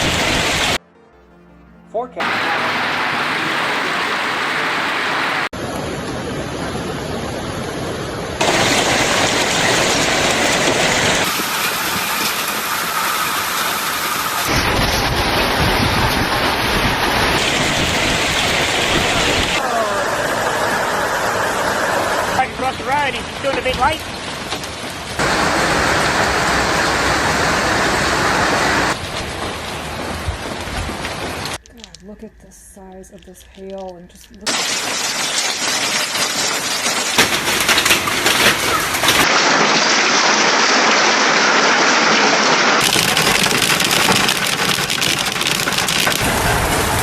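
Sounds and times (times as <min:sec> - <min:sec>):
heavy rain and hail: 0:00.0 - 0:00.8, 0:02.2 - 0:32.0, 0:34.4 - 0:47.0.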